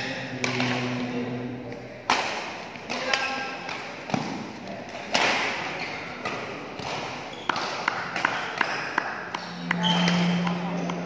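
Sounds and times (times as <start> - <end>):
racket hitting shuttlecock: 0.4 - 0.8, 2.1 - 11.0.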